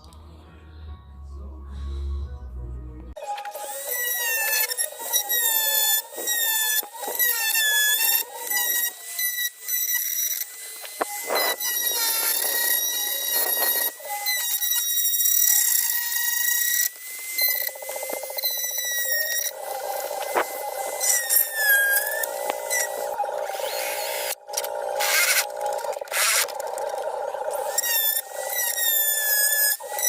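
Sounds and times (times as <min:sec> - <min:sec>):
power tool squealing whine: 0:03.2 - 0:30.0.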